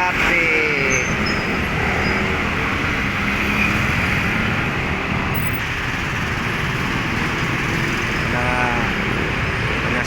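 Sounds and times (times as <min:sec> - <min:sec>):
heavy road traffic rumble: 0:00.0 - 0:10.0.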